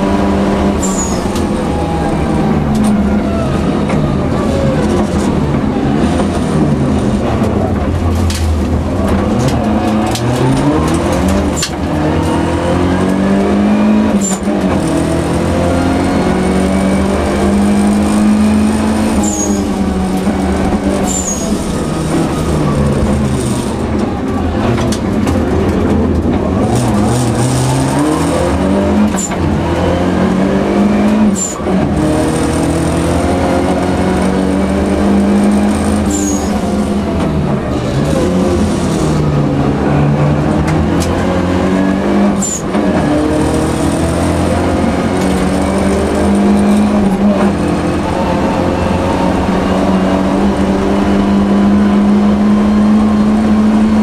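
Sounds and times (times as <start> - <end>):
car engine at full throttle: 0.0 - 54.0.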